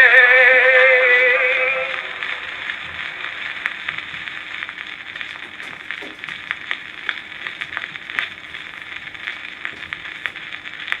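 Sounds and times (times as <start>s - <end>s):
record crackles and pops: 0.0s - 11.0s
record surface hiss: 0.0s - 11.0s.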